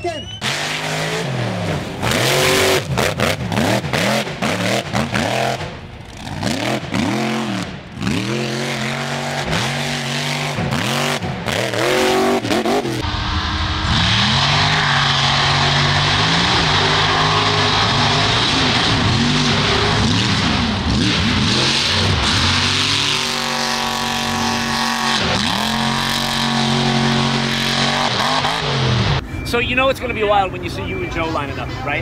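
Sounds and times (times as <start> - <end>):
truck engines revving: 0.0 - 32.0.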